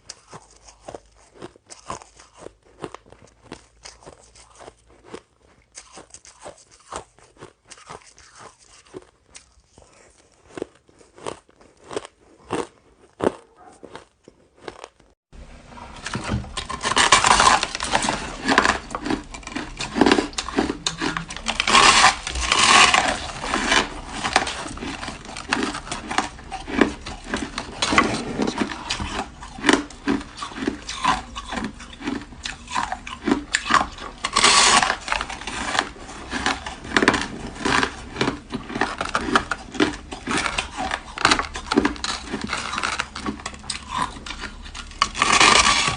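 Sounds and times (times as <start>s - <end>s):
crunching and chewing shaved ice: 0.0s - 45.9s.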